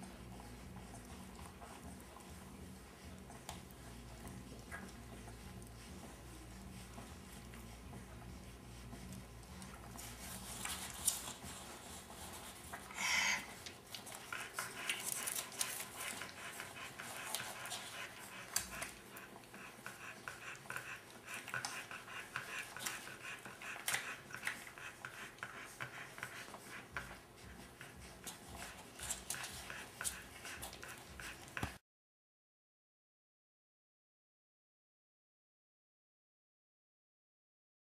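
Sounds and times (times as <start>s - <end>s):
puppies suckling: 0.0s - 31.8s.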